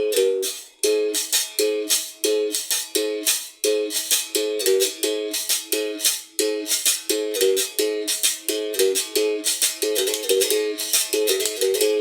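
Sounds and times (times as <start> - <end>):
berimbau being played: 0.0 - 12.0
shaker rattle: 0.5 - 11.8.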